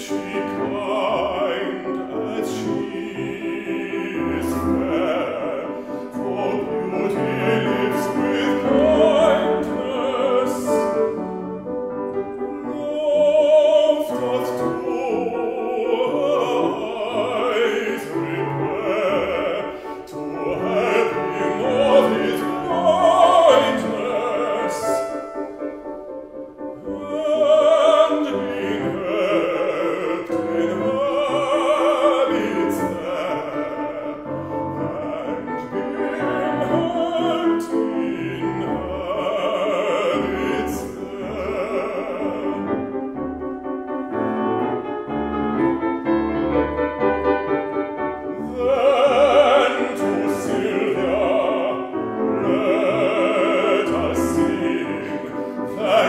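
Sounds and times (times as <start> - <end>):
baritone singing operatically: 0.0 - 11.4, 12.4 - 25.6, 26.7 - 43.2, 48.3 - 56.0
piano accompaniment: 0.0 - 56.0.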